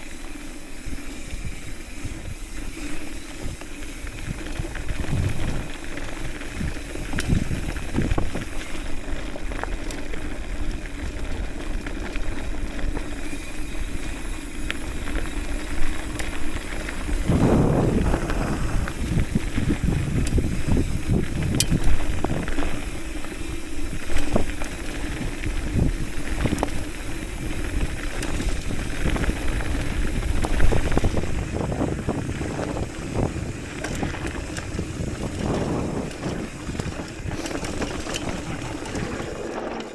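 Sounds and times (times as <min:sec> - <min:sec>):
bike rattling over bumps: 0:00.0 - 0:39.9
bike tyres rumbling on dirt: 0:00.0 - 0:39.9.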